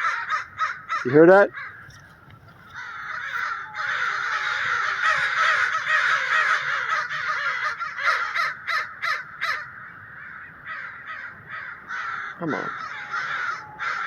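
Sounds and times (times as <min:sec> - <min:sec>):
crows cawing: 0:00.0 - 0:14.0.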